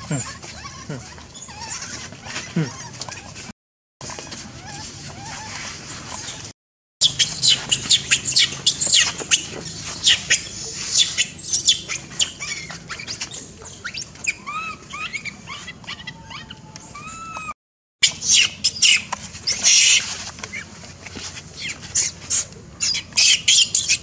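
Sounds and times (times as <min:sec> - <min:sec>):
infant monkey squealing: 0:00.0 - 0:03.5, 0:04.2 - 0:20.6, 0:21.6 - 0:24.0.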